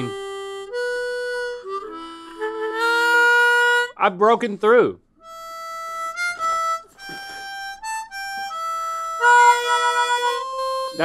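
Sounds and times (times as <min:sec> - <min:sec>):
louder held harmonica note: 0:00.0 - 0:04.0, 0:05.2 - 0:11.0
harmonica single notes: 0:00.0 - 0:04.5, 0:05.2 - 0:11.0.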